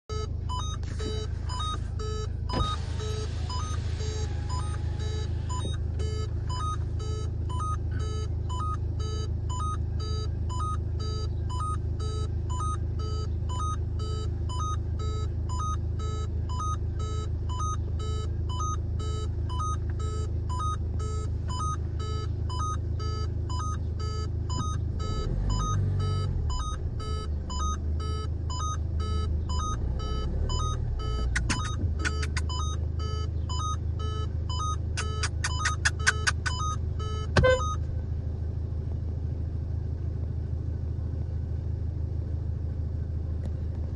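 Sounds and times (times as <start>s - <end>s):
vehicle warning chime beeping: 0.1s - 38.0s
engine idling: 0.1s - 43.9s.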